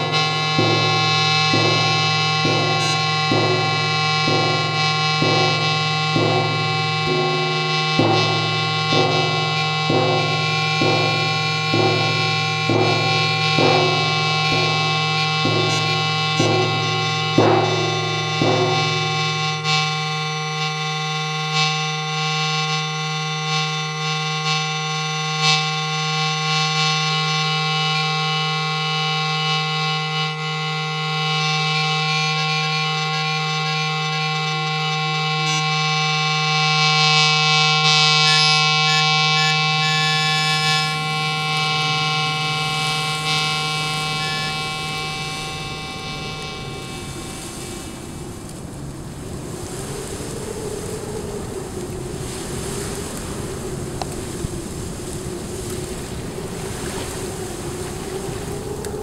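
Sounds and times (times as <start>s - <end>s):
droning music: 0.0s - 59.0s.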